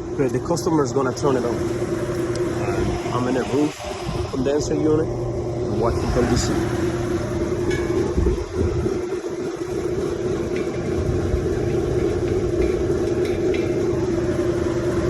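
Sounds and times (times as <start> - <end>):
air conditioning unit humming: 0.0 - 15.0.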